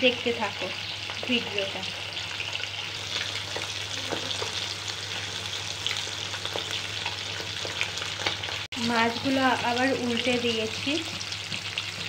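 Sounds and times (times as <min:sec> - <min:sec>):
fish sizzling in hot oil: 0:00.0 - 0:12.0
oil popping and crackling: 0:00.2 - 0:12.0.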